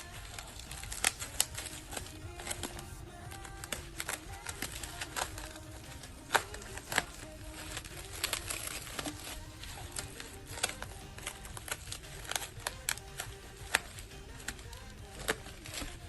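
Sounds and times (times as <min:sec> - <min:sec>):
packaging rustling: 0:00.0 - 0:16.0
plastic packaging clicks: 0:00.0 - 0:16.0.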